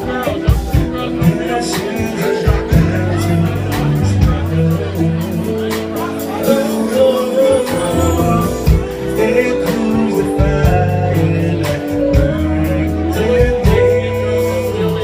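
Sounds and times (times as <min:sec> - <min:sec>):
live band playing slow song: 0:00.0 - 0:15.0
person singing: 0:01.1 - 0:15.0.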